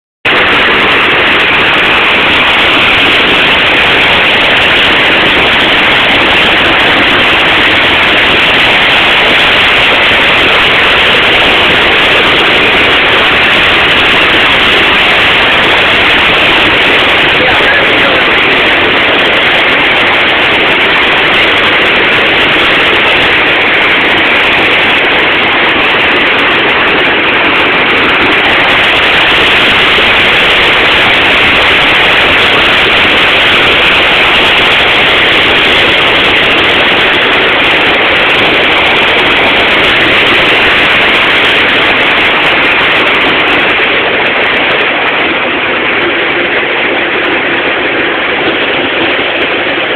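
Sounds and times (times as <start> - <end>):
river water pouring over weir: 0.3 - 49.9.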